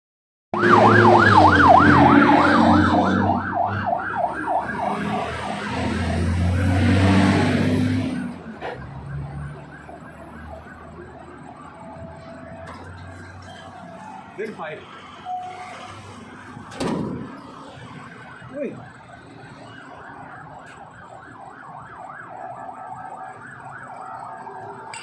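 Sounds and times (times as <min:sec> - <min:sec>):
emergency siren yelping: 0:00.6 - 0:25.0.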